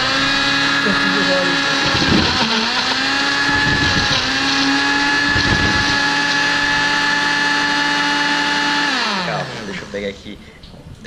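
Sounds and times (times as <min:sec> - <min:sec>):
blender motor whining: 0:00.0 - 0:10.2.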